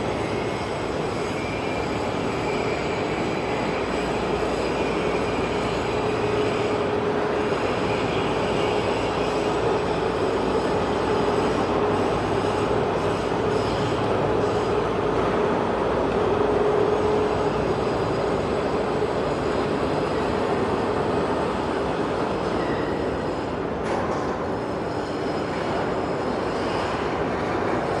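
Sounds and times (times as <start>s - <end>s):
faint machine whine: 0.0s - 28.0s.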